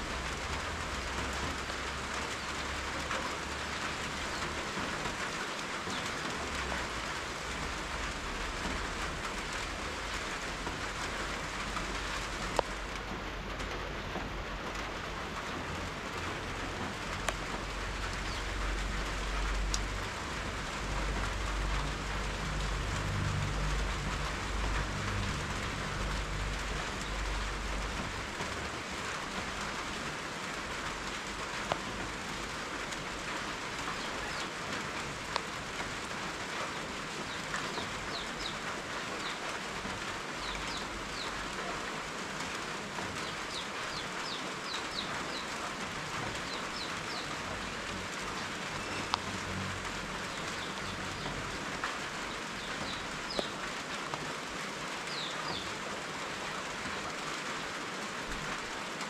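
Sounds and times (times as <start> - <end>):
water drips ticking: 0.0 - 54.4
steady rain falling: 0.0 - 59.0.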